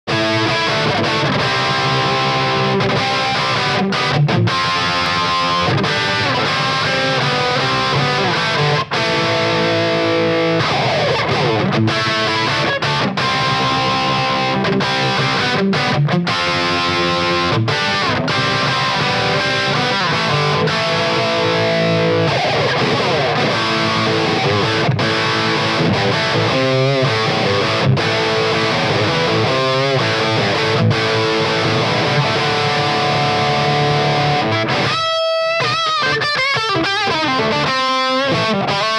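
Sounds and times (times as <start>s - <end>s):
distorted electric guitar riff: 0.0s - 38.9s.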